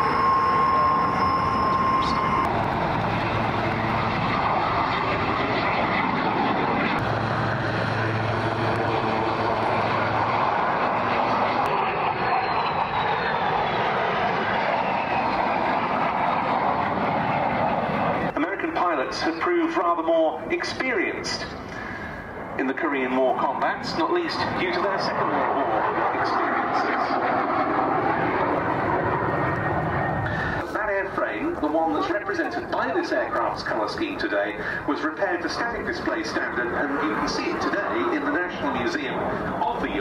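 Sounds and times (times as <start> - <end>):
high jet whine: 0.0 - 40.0
jet roar: 0.0 - 40.0.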